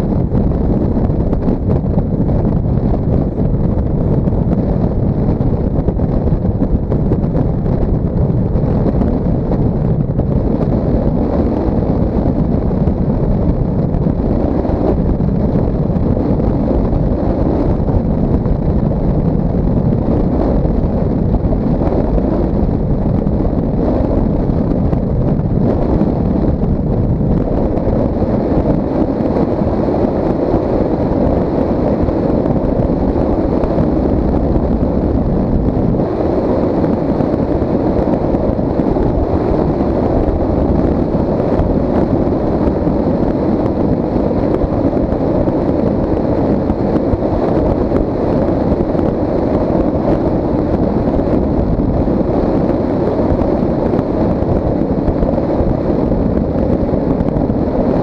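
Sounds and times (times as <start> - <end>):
road and tyre noise: 0.0 - 58.0
wind buffeting microphone: 0.0 - 58.0.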